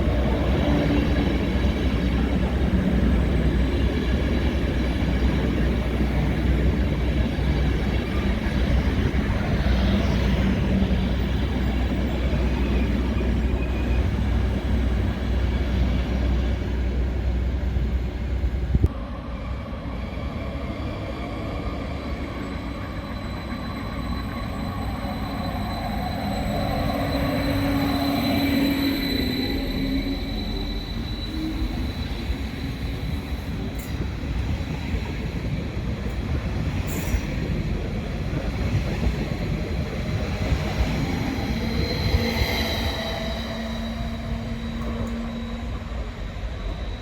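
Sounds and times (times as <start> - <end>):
approaching train whine: 0.0 - 47.0
train rumbling: 0.0 - 47.0.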